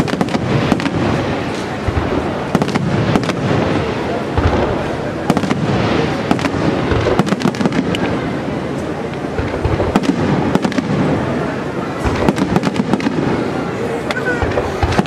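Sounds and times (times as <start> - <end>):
continuous rumble: 0.0 - 15.0
firework shells bursting: 0.0 - 15.0.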